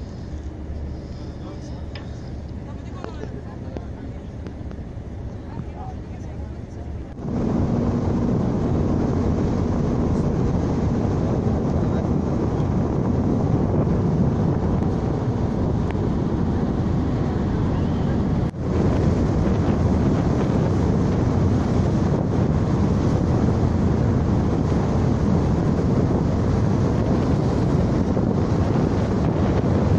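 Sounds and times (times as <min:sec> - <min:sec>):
steady low rumble: 0:00.0 - 0:29.9
wind buffeting microphone: 0:00.0 - 0:29.9.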